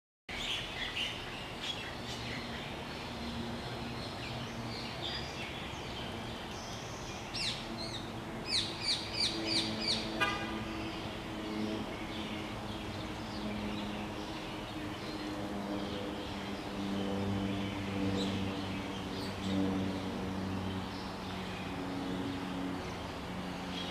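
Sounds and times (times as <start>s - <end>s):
small birds chirping: 0.3s - 23.9s.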